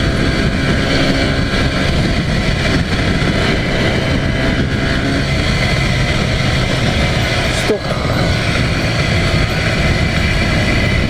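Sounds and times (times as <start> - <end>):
two-stroke motorcycle engine running: 0.0 - 11.0
wind and road noise: 0.0 - 11.0.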